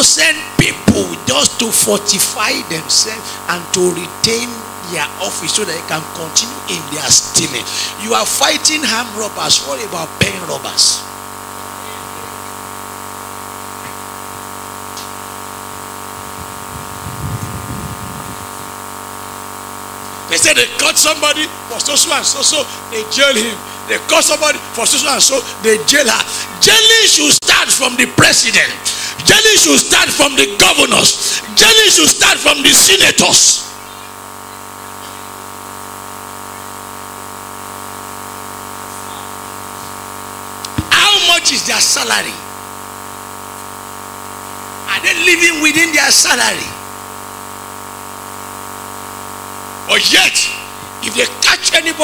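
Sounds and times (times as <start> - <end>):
sound system hiss and hum: 0.0 - 52.0.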